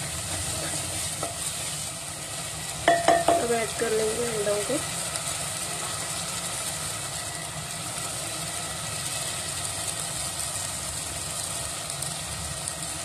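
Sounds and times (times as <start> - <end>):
sauce sizzling in a pan: 0.0 - 13.0.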